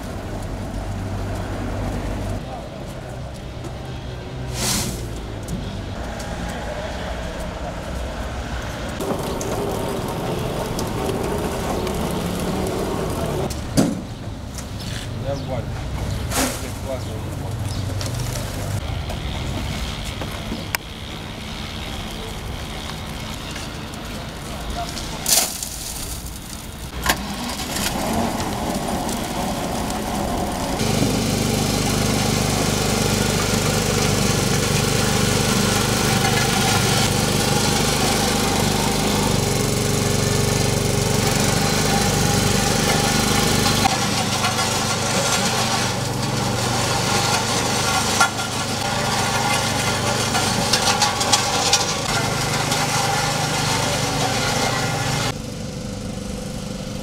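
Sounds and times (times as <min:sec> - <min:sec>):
road machinery engines running: 0:00.0 - 0:57.0.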